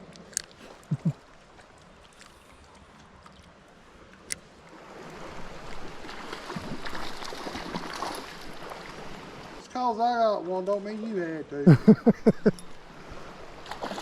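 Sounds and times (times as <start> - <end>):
creek water running: 0.0 - 14.0
water splashing and sloshing: 0.0 - 14.0.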